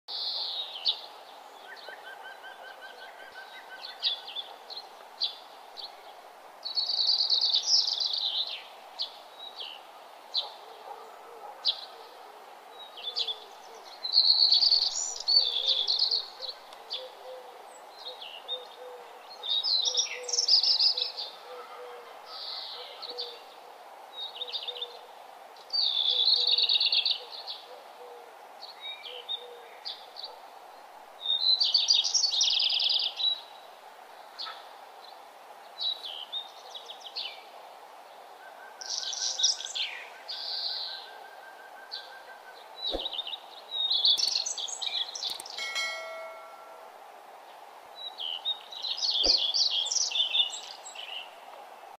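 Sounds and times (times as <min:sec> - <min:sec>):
faint background hiss: 0:00.1 - 0:51.9.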